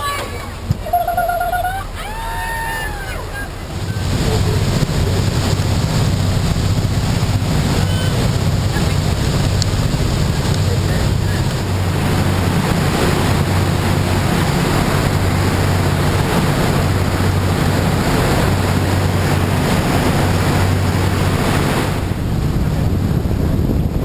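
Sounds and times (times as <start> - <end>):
boat engine droning: 0.0 - 24.0
wake water rushing: 0.0 - 24.0
wind buffeting microphone: 0.0 - 24.0.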